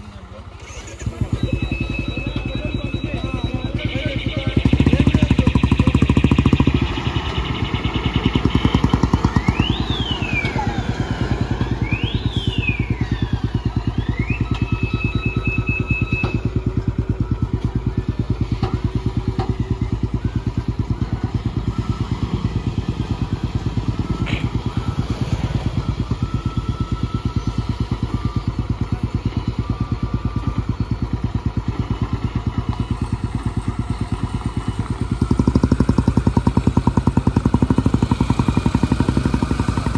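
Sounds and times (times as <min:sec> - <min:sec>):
lorry diesel engine pulling: 0:00.0 - 0:39.9
motorcycles passing: 0:00.0 - 0:39.9.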